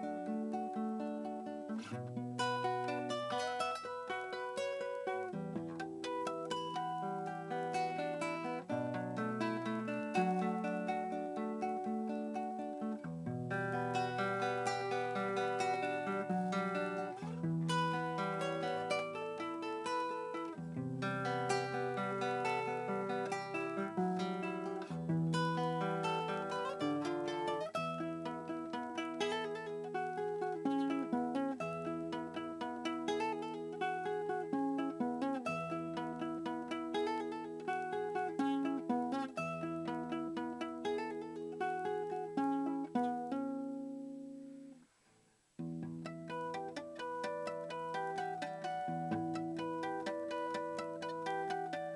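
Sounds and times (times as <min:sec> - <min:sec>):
solo guitar playing: 0:00.0 - 0:51.9.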